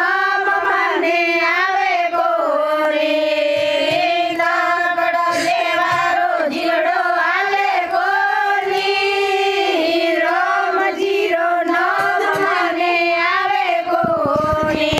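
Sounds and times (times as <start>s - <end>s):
women singing together: 0.0s - 14.9s.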